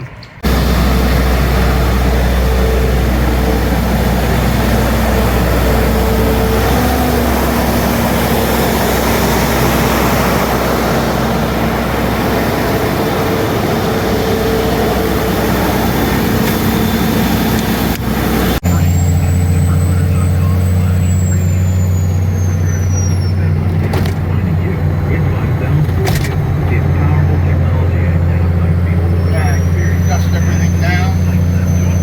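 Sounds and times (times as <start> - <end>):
diesel truck engine running: 0.0 - 32.0
road and cab noise: 0.0 - 32.0.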